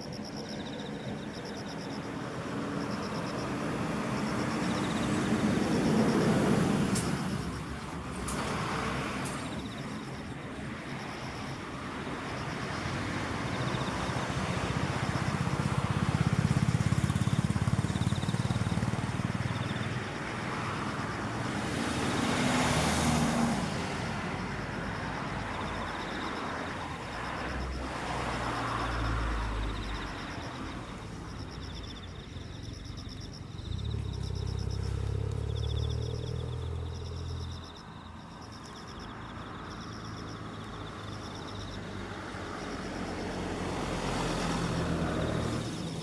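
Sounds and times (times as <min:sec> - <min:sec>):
insects chirping: 0:00.0 - 0:46.0
road vehicles passing: 0:00.0 - 0:46.0.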